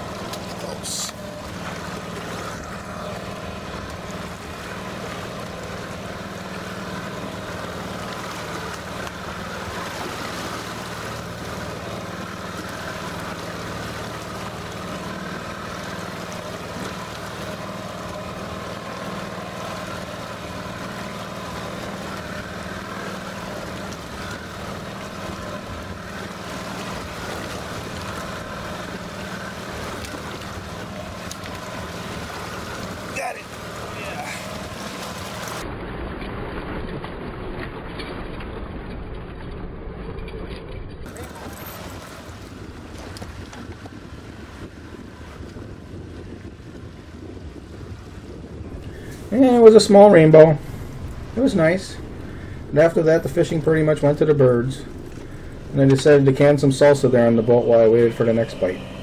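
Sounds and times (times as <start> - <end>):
outboard motor running: 0.0 - 59.0
water sloshing around boat: 0.0 - 59.0
wind: 0.0 - 59.0.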